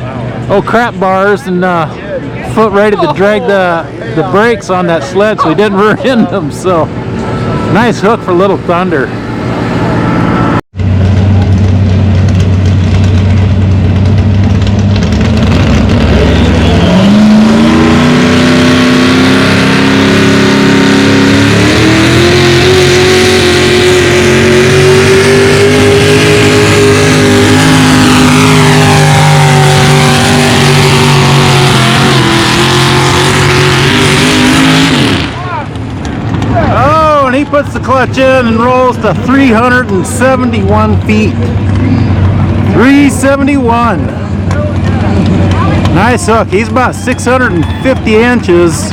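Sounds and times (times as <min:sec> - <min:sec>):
truck engine at full throttle: 0:00.0 - 0:48.9.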